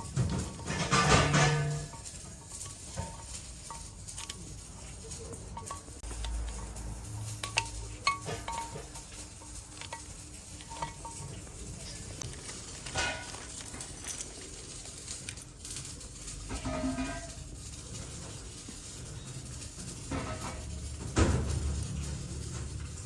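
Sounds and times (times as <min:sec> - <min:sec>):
metal engine parts clinking: 0:00.0 - 0:23.0.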